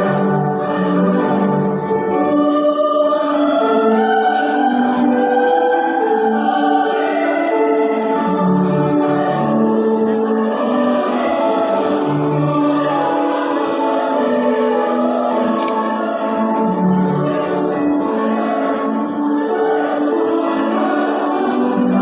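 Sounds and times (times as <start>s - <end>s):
vocal group singing in harmony: 0.0s - 22.0s.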